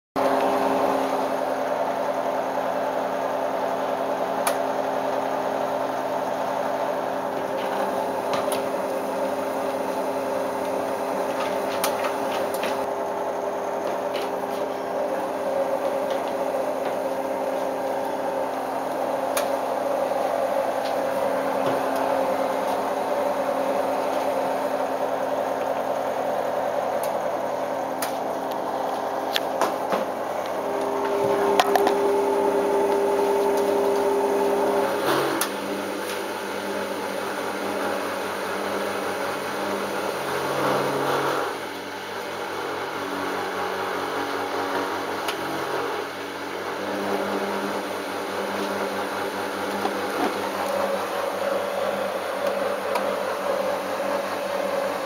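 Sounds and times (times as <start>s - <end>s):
washing machine motor hum: 0.2s - 55.0s.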